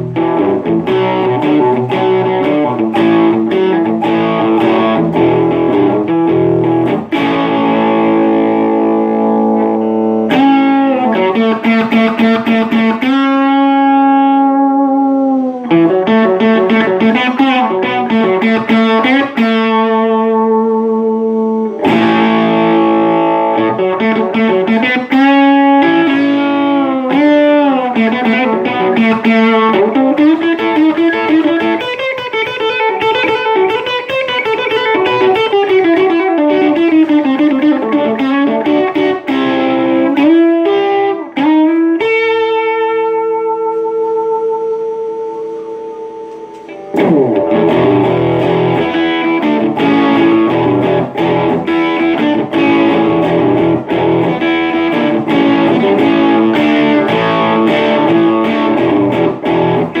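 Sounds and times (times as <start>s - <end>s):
distorted electric guitar: 0.0s - 60.0s.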